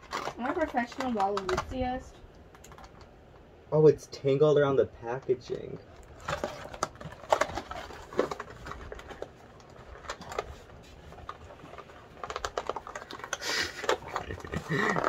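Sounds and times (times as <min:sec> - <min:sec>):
toy packaging taps and rustles: 0:00.0 - 0:03.1, 0:06.0 - 0:15.0.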